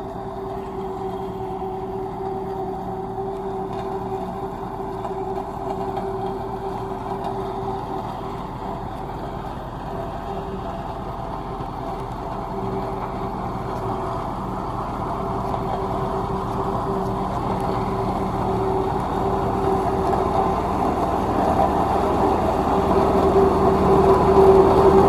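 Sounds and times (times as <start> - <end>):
road roller diesel engine running: 0.0 - 25.0.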